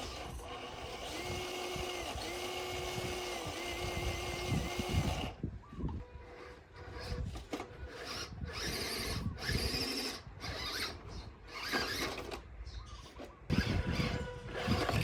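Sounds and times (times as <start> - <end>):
electric motor and gears whining: 0.0 - 12.4, 13.0 - 15.0.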